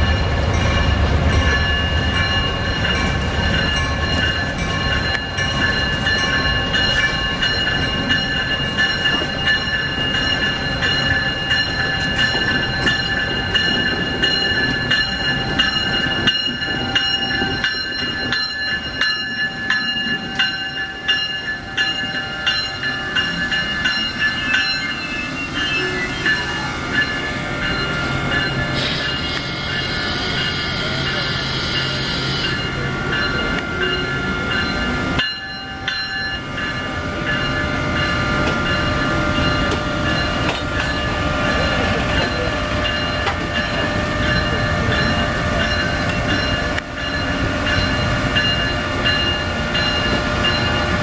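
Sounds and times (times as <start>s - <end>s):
locomotive bell ringing: 0.0s - 51.0s.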